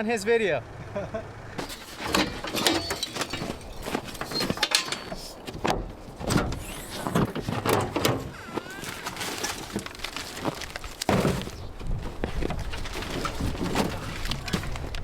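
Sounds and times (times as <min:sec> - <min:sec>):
irregular knocks and clunks: 0:01.6 - 0:08.6, 0:09.2 - 0:15.0.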